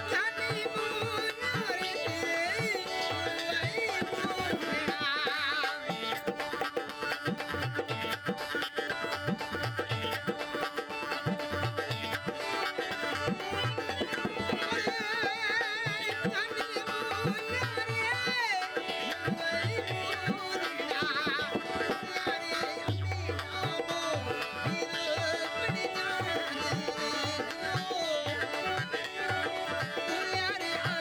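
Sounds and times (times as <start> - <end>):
ornamented singing melody: 0.0 - 31.0.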